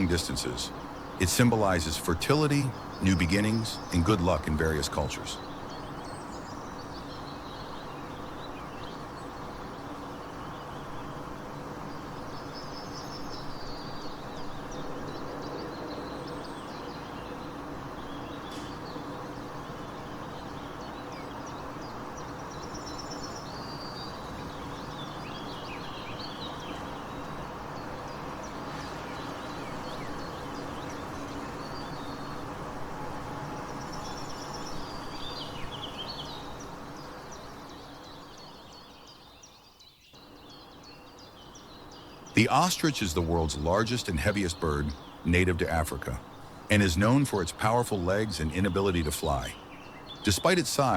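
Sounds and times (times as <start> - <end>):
songbirds chirping and trilling: 0.0 - 50.9
steady background hiss: 0.0 - 50.9.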